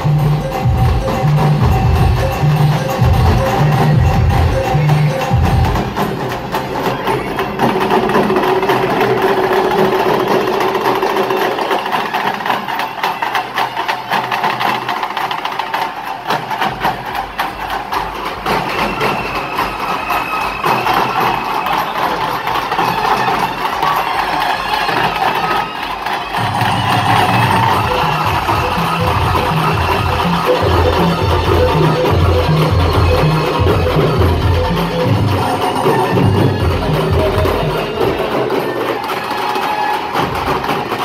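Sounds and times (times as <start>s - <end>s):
fast dense drumming: 0.0s - 41.0s
loud procession music: 0.0s - 41.0s.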